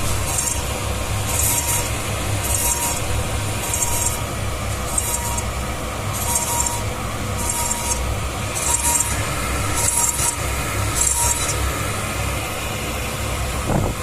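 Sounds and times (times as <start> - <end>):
milling machine hum: 0.0 - 14.0.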